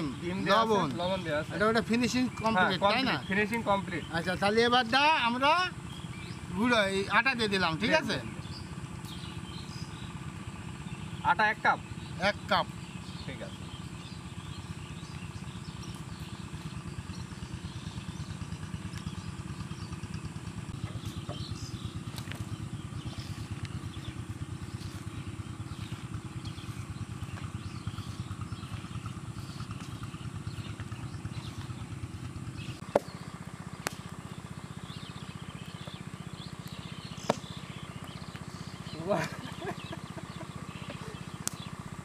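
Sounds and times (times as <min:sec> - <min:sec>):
low engine drone: 0:00.0 - 0:42.0.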